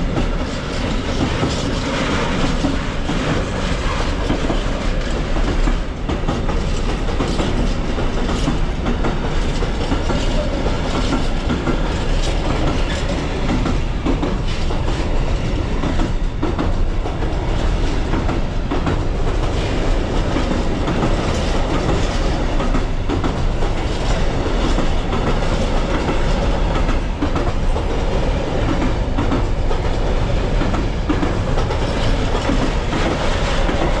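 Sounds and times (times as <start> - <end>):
freight train wagons rumbling: 0.0 - 34.0
wheels clicking over rail joints: 0.0 - 34.0.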